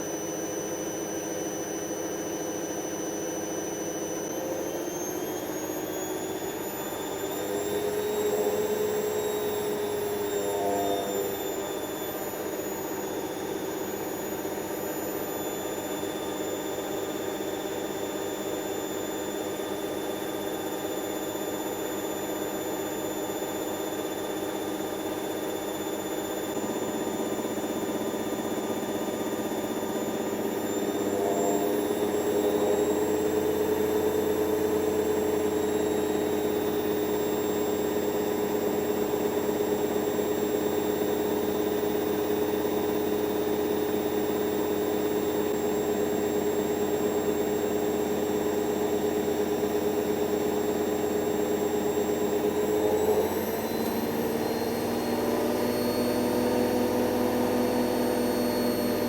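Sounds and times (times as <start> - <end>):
washing machine spinning: 1.7 - 59.0.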